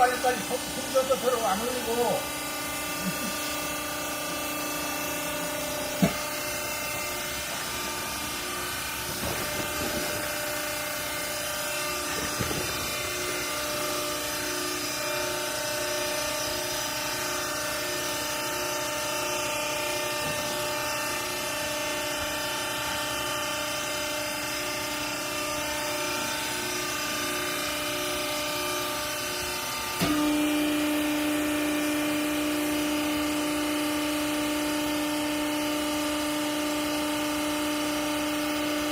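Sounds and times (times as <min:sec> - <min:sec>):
steady whining tones: 0:00.0 - 0:32.8
hydraulic power unit humming: 0:00.0 - 0:38.9.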